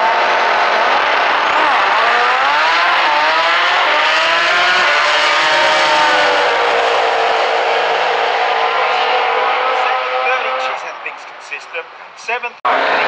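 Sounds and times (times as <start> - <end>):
racing car engines at full throttle: 0.0 - 13.0.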